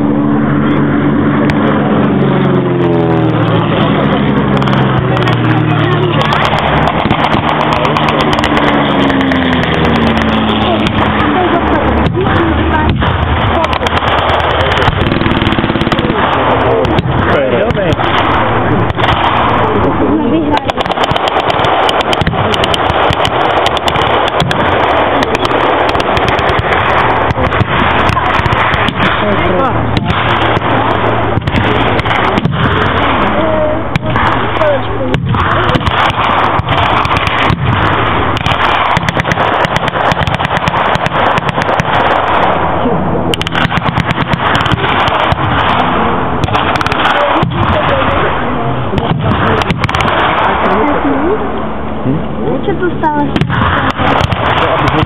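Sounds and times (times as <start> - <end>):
faint voices: 0.0 - 55.0
steady rushing background: 0.0 - 55.0
blank gunfire: 3.5 - 51.2, 53.3 - 55.0.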